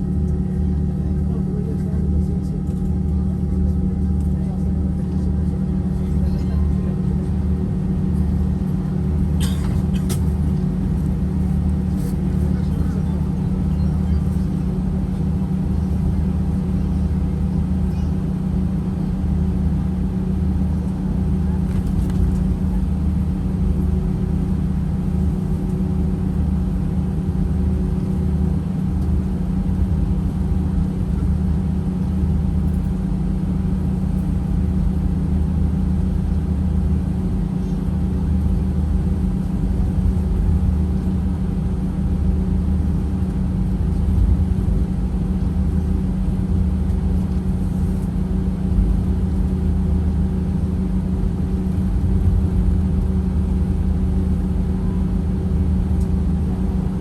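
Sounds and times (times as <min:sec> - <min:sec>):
jet airliner cabin hum: 0:00.0 - 0:57.0.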